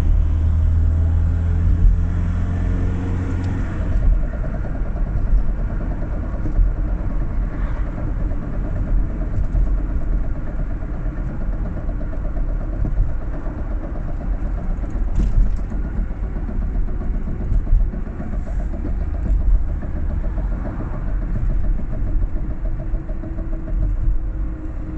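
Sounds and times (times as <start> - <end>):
engine knocking: 0.0 - 24.9
van engine rumbling: 0.0 - 24.9.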